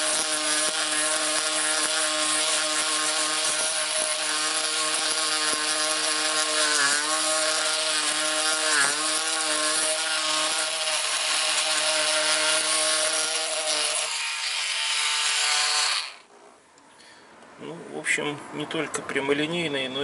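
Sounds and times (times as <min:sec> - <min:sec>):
multi-tool cutting: 0:00.0 - 0:16.3.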